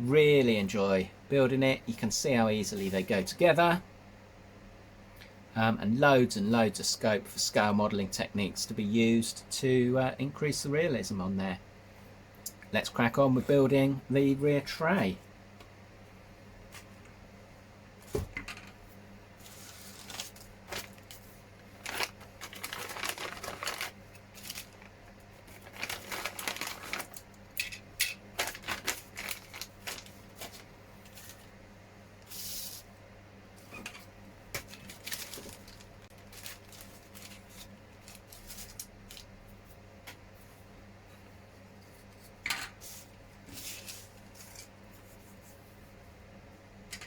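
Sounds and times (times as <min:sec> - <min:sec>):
faint hum: 0:00.0 - 0:47.0.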